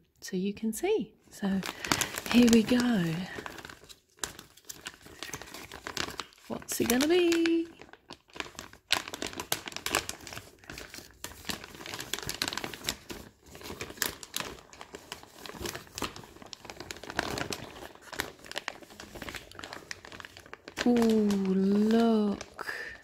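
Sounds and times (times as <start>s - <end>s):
plastic bag crinkling: 1.3s - 23.0s.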